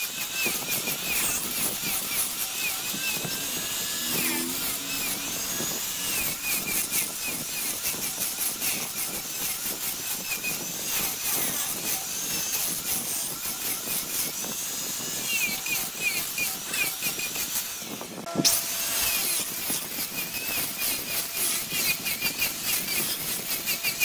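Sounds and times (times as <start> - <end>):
wood lathe cutting: 0.0 - 24.0.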